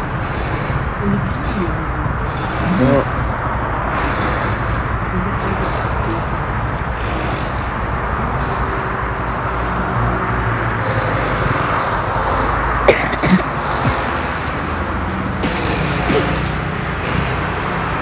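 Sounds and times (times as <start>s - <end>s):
road traffic heard from inside car: 0.0s - 18.0s.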